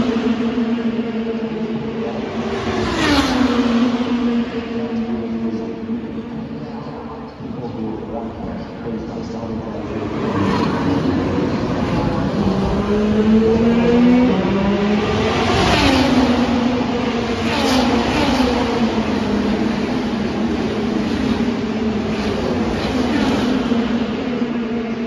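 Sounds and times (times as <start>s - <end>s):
racing car engine passing by: 0.0s - 25.0s.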